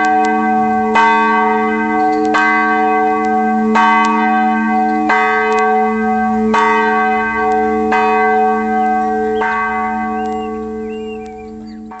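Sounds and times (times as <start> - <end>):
church bell ringing: 0.0 - 12.0.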